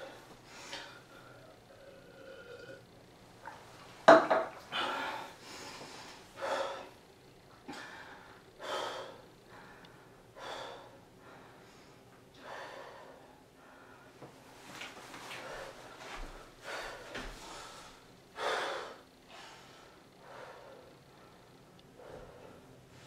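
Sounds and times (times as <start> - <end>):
man breathing heavily: 0.0 - 3.0, 4.6 - 23.0.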